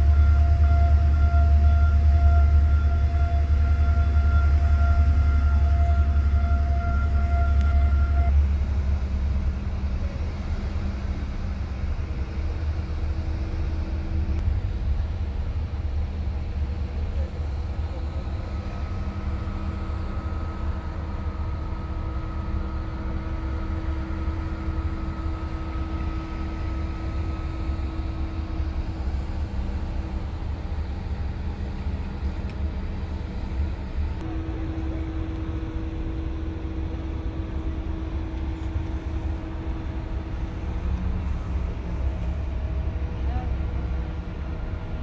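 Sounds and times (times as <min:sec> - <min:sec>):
ship engines humming: 0:00.0 - 0:45.0.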